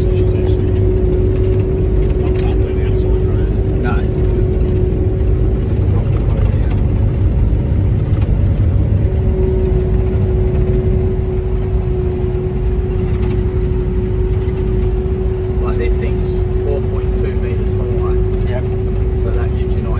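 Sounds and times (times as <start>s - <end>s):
diesel machinery low drone: 0.0s - 19.9s
machinery steady whine: 0.0s - 19.9s.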